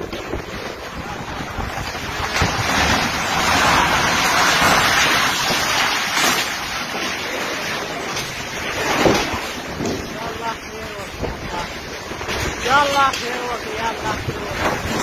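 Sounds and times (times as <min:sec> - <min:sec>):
wind buffeting microphone: 0:00.0 - 0:06.0, 0:08.3 - 0:15.0.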